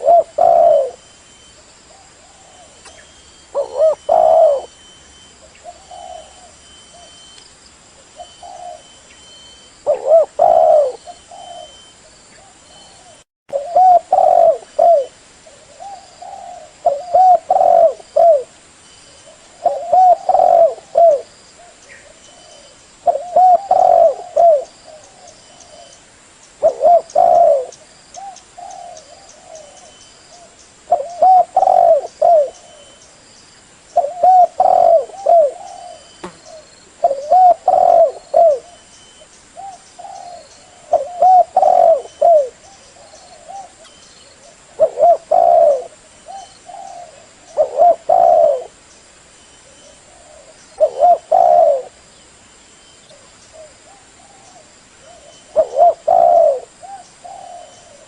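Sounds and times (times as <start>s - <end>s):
dove cooing: 0.0s - 7.2s, 8.0s - 9.0s, 9.8s - 18.5s, 19.2s - 26.0s, 26.6s - 33.0s, 34.0s - 48.8s, 49.6s - 52.0s, 53.1s - 58.0s.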